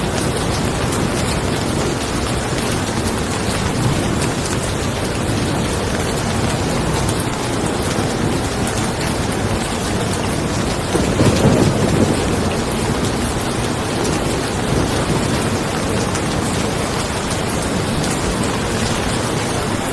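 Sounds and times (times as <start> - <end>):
rain falling on a car: 0.0 - 19.9
thunder rolling: 0.0 - 19.9.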